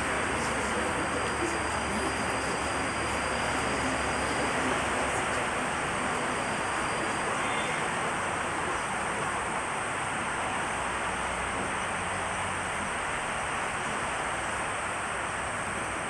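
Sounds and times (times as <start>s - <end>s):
high-pitched whine: 0.0s - 14.8s
videotape hiss: 0.0s - 16.0s.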